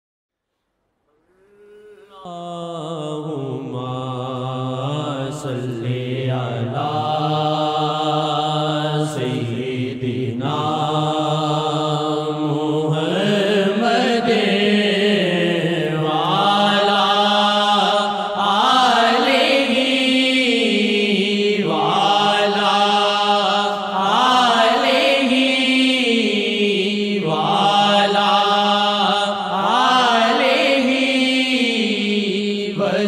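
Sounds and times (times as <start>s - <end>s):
person chanting melodically: 1.1s - 33.0s.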